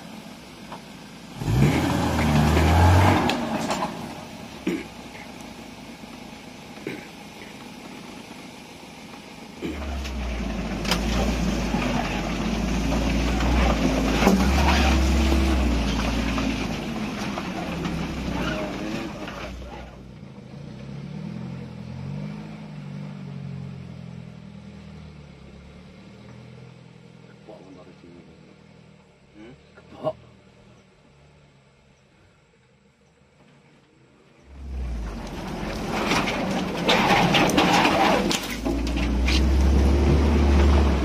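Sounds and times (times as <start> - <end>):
off-road engine revving: 0.0 - 31.5, 34.4 - 41.0.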